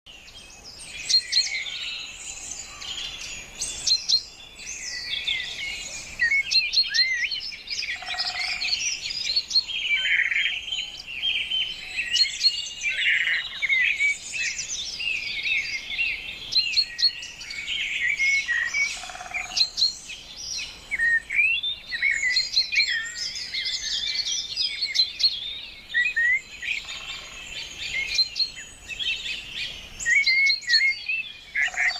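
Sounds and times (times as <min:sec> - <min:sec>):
birds chirping and calling: 0:00.1 - 0:31.9.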